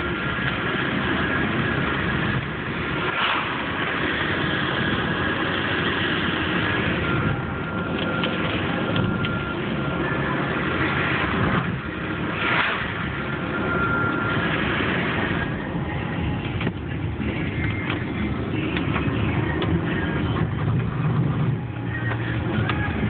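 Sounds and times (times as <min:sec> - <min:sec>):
car engine hum: 0:00.0 - 0:23.0.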